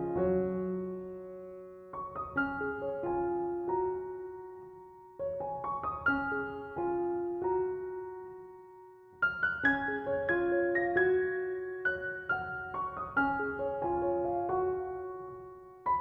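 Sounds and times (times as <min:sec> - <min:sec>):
gentle solo piano music: 0:00.0 - 0:16.0.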